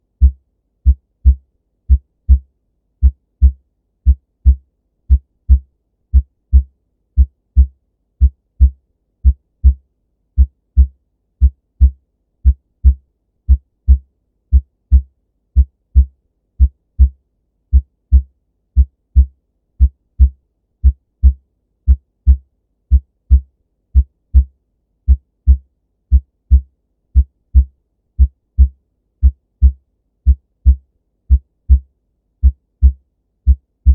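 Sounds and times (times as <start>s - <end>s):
heartbeat lub-dub thumps: 0.1s - 9.8s, 10.4s - 24.5s, 25.1s - 33.9s.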